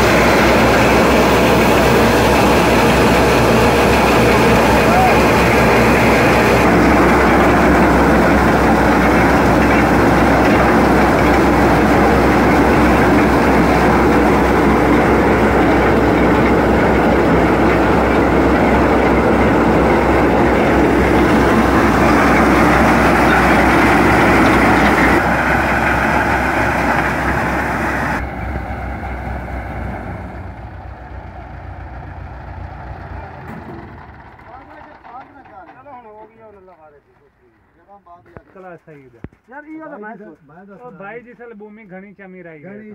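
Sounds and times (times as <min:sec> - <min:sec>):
grain rushing through machine: 0:00.0 - 0:36.7
tractor diesel engine running: 0:00.0 - 0:38.1.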